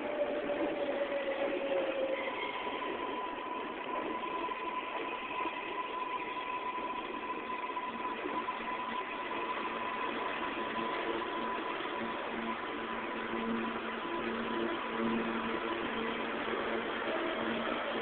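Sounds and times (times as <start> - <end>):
high-pitched whine: 0.0 - 18.0
subway train hum: 0.0 - 18.0.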